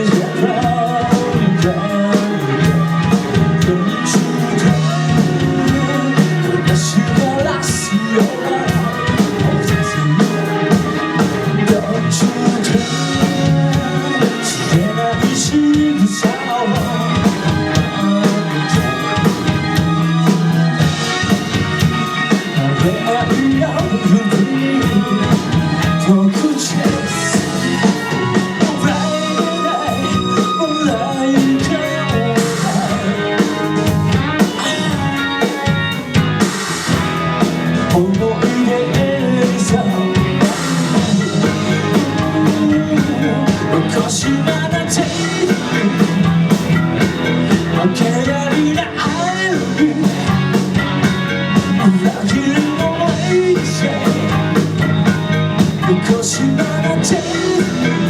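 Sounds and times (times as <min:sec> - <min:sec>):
drum kit: 0:00.0 - 0:58.0
electric guitars: 0:00.0 - 0:58.0
person singing lead vocal: 0:00.0 - 0:58.0.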